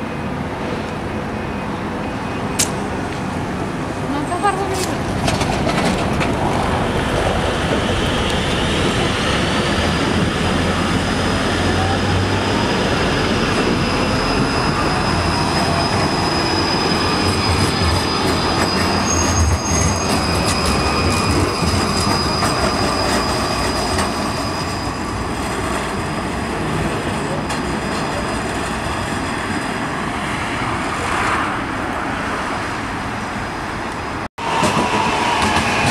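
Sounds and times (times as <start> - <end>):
rumble of rolling tram: 0.0 - 35.9
tram wheels squealing: 4.2 - 32.3, 34.4 - 35.9.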